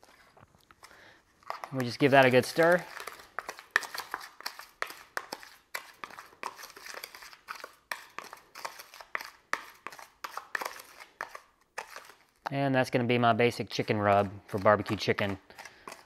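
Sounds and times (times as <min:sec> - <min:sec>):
metal spoon scraping plastic bowl: 0:00.0 - 0:16.0.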